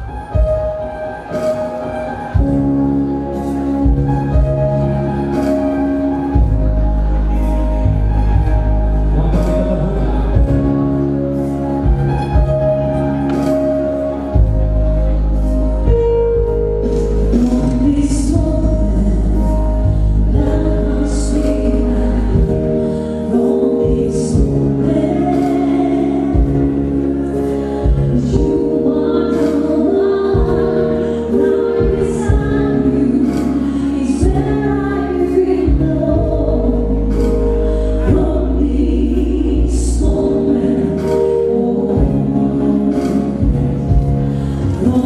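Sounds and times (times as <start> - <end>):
instrumental accompaniment: 0.0 - 45.0.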